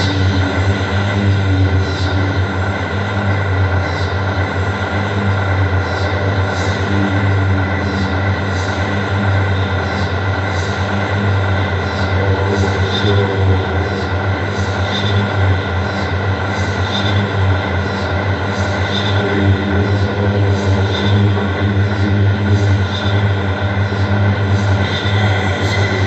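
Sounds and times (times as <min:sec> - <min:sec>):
noise music drone: 0:00.0 - 0:26.0.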